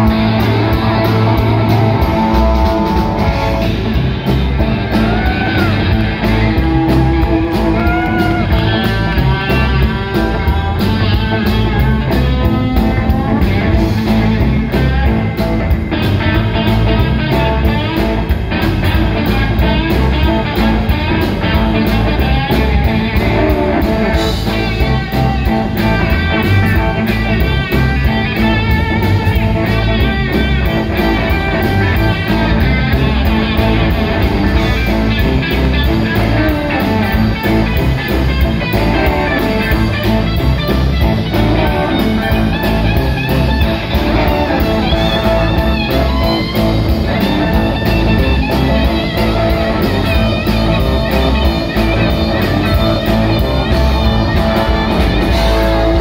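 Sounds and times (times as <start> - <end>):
bass: 0.0 - 56.0
drums and cymbals: 0.0 - 56.0
electric guitar lead lines: 0.0 - 56.0.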